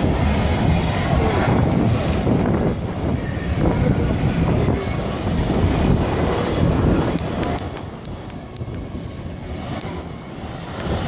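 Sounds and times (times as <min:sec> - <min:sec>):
aircraft engines running: 0:00.0 - 0:11.0.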